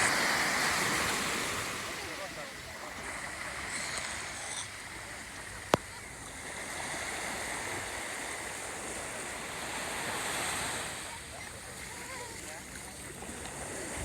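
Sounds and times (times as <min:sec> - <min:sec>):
waves washing onto beach: 0:00.0 - 0:14.0.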